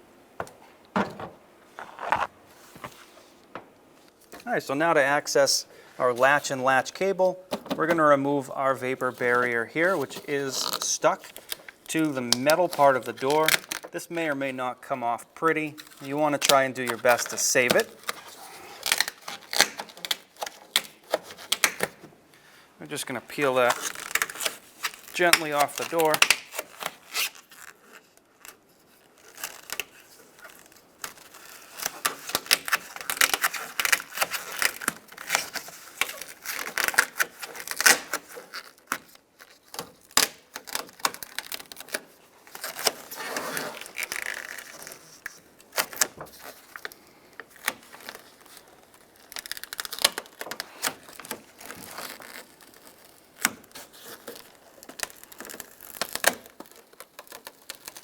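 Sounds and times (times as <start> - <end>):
plastic sheet peeling and crackling: 0.6 - 14.5, 15.4 - 22.0, 22.9 - 58.0.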